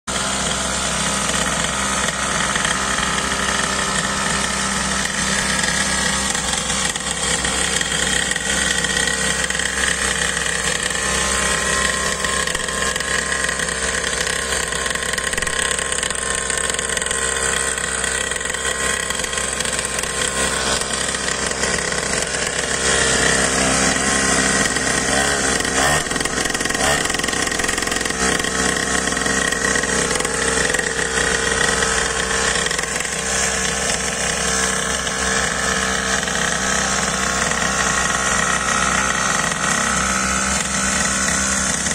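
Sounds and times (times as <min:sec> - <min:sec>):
small two-stroke engine idling: 0:00.0 - 0:41.9.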